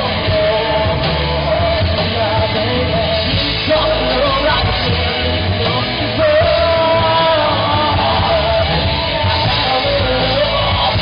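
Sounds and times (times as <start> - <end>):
bass guitar: 0.0 - 11.0
drum kit: 0.0 - 11.0
electric guitars: 0.0 - 11.0
person singing: 0.0 - 11.0.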